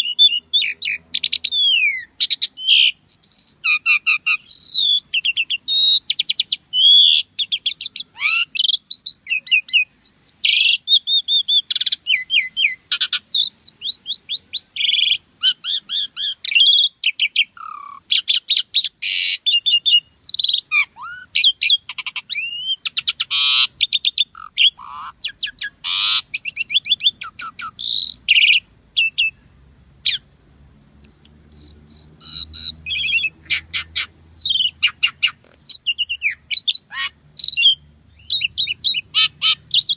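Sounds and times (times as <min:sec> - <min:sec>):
starling singing: 0:00.0 - 0:29.4, 0:30.0 - 0:30.3, 0:31.0 - 0:39.9.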